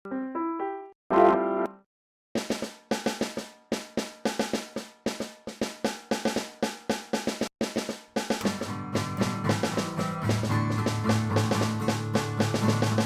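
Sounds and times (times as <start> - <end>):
drum kit playing a beat: 2.4 - 13.0.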